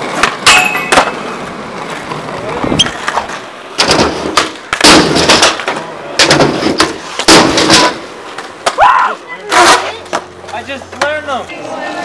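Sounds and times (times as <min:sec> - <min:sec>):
skateboard clacks and slaps: 0:00.0 - 0:10.3
skateboard wheels rolling: 0:00.0 - 0:12.0.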